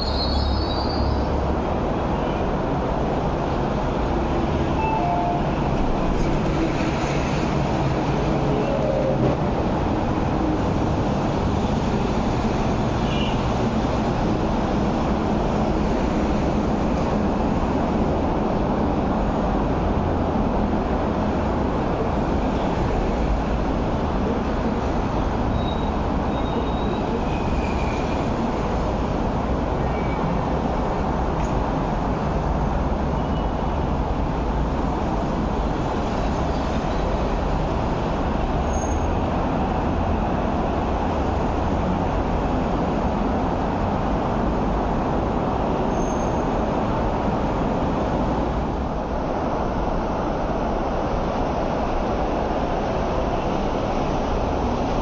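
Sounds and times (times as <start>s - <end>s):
electric trains rumbling and hissing: 0.0s - 55.0s.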